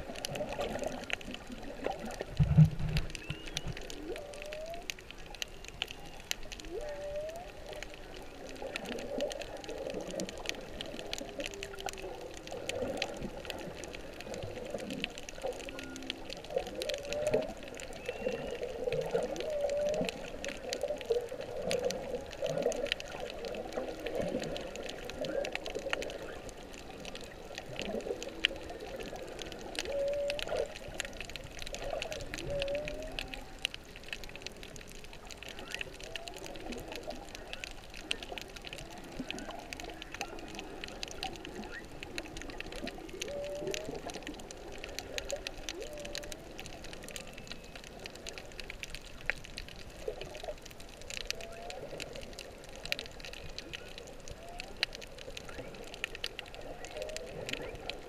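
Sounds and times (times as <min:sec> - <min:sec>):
crackle of clicks: 0:00.0 - 0:58.0
whale song: 0:00.0 - 0:58.0.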